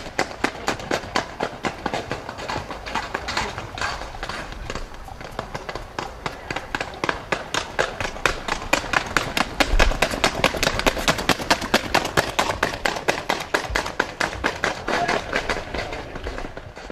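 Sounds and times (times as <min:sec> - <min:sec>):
horse hoofbeats on wet asphalt: 0:00.0 - 0:16.9.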